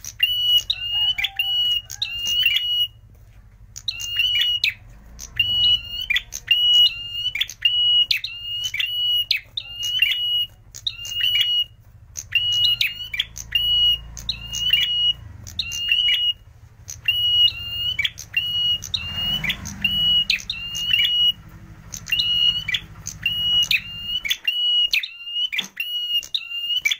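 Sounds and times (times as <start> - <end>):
bird piping call: 0.0 - 26.9.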